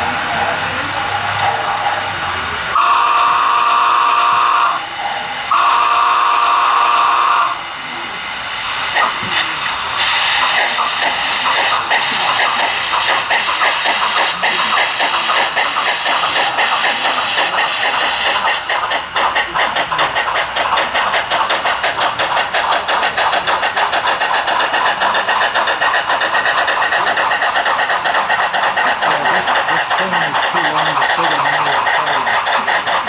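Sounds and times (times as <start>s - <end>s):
model steam train running: 0.0s - 33.0s.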